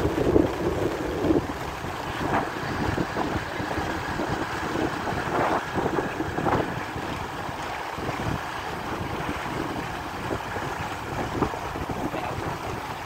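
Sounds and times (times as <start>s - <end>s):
small waves breaking on sand: 0.0s - 13.0s
wind rumbling on microphone: 0.0s - 13.0s.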